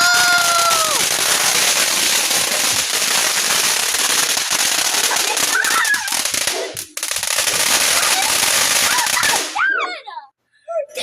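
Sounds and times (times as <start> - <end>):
fireworks crackling: 0.0 - 9.7.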